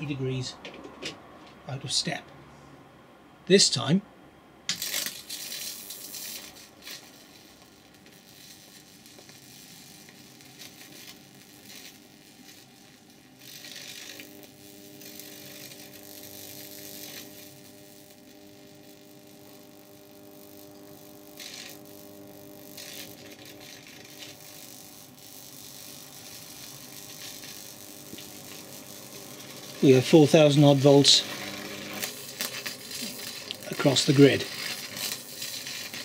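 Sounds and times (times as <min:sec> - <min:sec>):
steady electrical hum: 0:00.0 - 0:36.0
electric arc crackling and snapping: 0:04.7 - 0:36.0.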